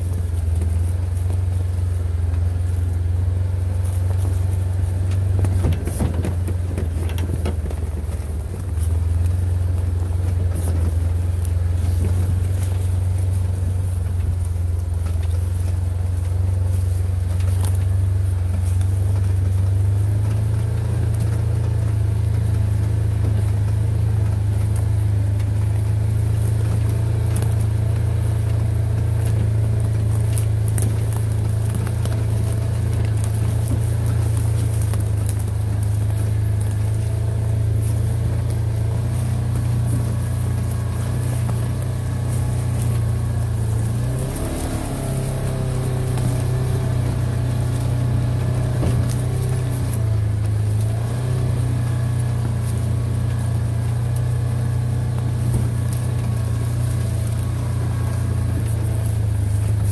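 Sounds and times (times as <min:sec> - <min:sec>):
small vehicle engine running: 0:00.0 - 0:59.9.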